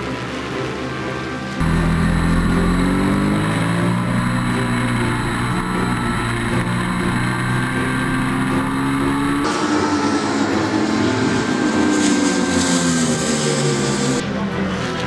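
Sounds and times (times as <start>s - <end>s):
motorcycle engine revving: 1.6s - 14.2s.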